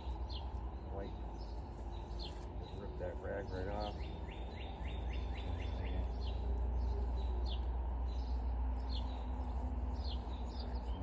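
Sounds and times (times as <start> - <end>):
songbird chirping: 0.0 - 11.0
steady low rumble: 0.0 - 11.0.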